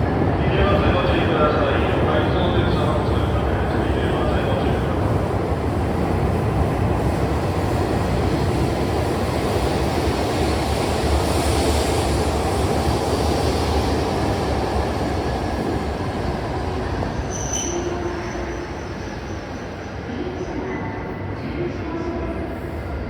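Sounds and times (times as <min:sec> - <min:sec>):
high-speed train passing: 0:00.0 - 0:23.0.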